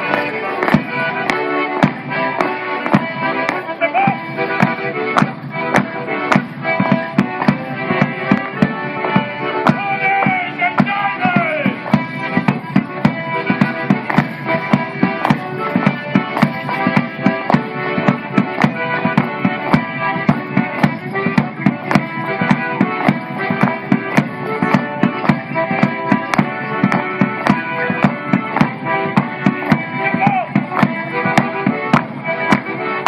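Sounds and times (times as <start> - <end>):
folk tune: 0.0 - 33.0
sharp rhythmic knocks: 0.1 - 32.8.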